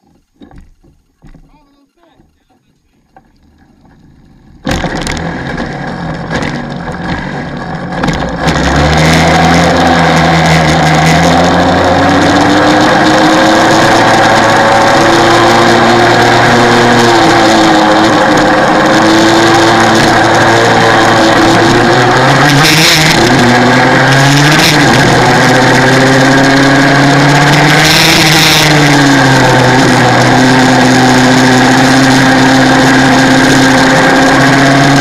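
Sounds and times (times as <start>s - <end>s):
two-stroke kart engine revving: 3.2s - 35.0s.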